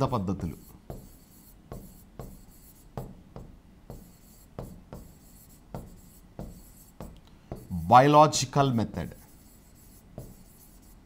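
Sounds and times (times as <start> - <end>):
pen writing on a board: 0.4 - 7.8, 9.0 - 11.0.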